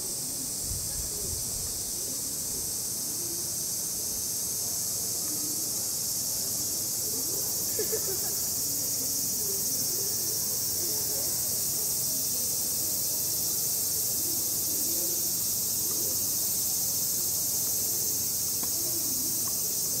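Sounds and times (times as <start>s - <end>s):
cicadas droning: 0.0s - 20.0s.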